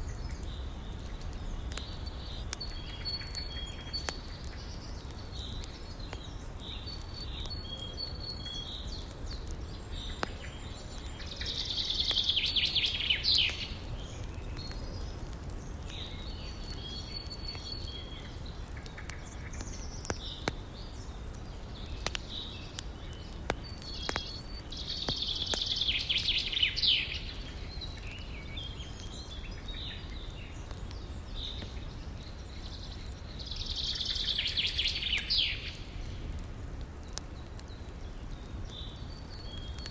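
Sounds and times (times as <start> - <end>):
songbirds calling: 0.0 - 39.9
wood fire crackling: 0.0 - 39.9.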